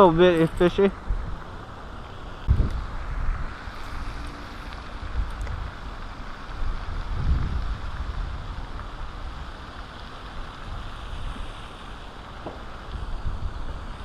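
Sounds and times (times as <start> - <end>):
steady hiss: 0.0 - 14.0
wind buffeting microphone: 0.0 - 14.0.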